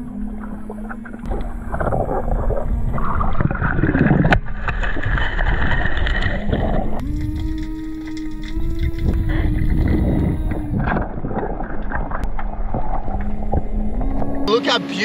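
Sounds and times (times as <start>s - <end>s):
underwater rushing and gurgling: 0.0s - 15.0s.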